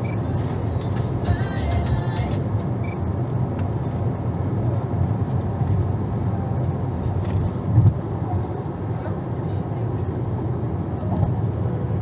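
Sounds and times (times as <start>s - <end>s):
car driving on highway: 0.0s - 12.0s.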